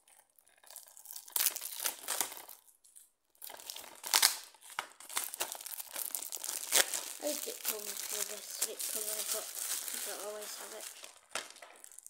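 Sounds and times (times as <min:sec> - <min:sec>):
plastic wrap tearing and crackling: 0:00.0 - 0:12.0.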